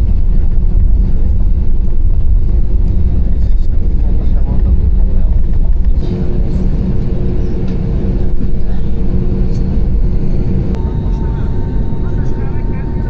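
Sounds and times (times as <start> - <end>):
airliner cabin rumble: 0.0 - 13.0
engine hum: 0.0 - 13.0.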